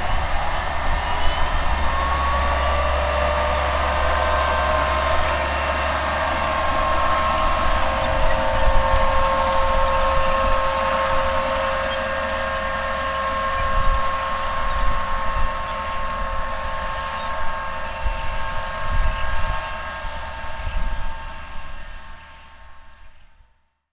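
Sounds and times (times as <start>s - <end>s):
tractor engine running with whine: 0.0s - 23.5s.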